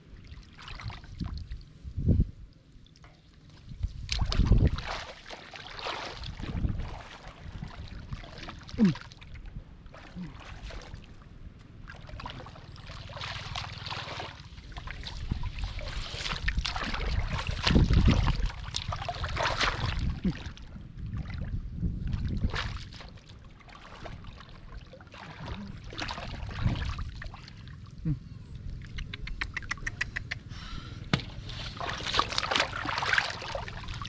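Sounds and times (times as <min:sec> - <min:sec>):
muddy water splashing: 0:00.0 - 0:01.9, 0:02.6 - 0:34.0.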